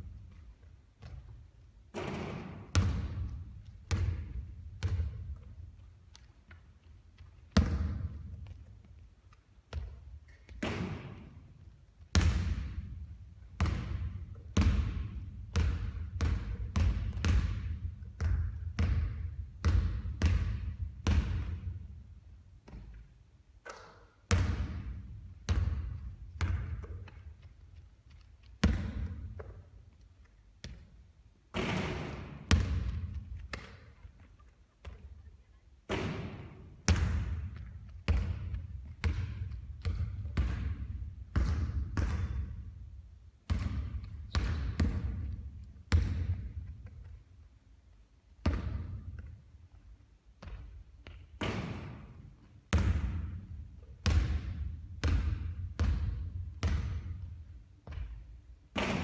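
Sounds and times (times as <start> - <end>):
basketballs bouncing on hard court: 0.0 - 9.0, 9.7 - 29.8, 30.6 - 35.3, 35.9 - 47.2, 48.4 - 49.4, 50.4 - 59.0.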